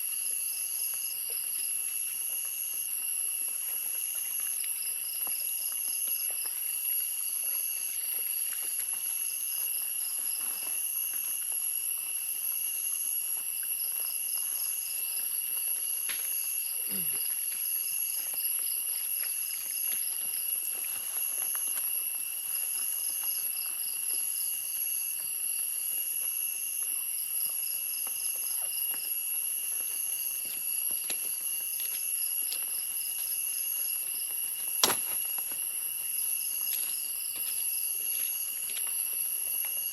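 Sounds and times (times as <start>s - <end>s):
insect trills: 0.0s - 39.9s.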